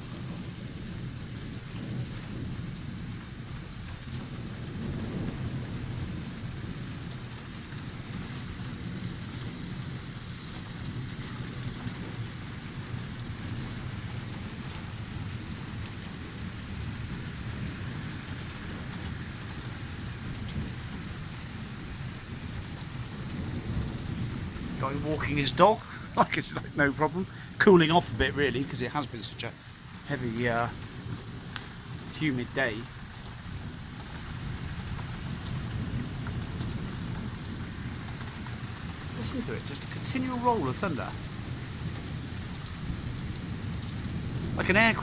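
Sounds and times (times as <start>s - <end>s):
heavy rain pouring: 0.0s - 45.0s
rolling thunder rumble: 0.0s - 45.0s.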